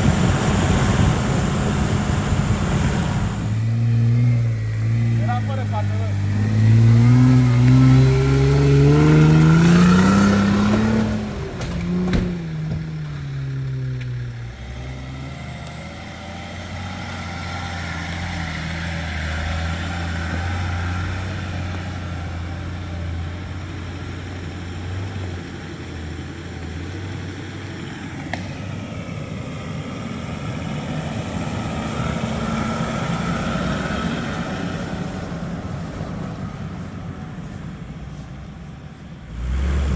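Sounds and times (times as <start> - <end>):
off-road vehicle engine revving: 0.0 - 36.9, 39.2 - 39.9.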